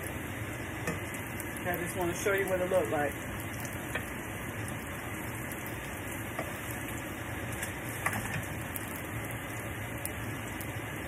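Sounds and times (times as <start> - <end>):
oil sizzling with pops: 0.0 - 11.0.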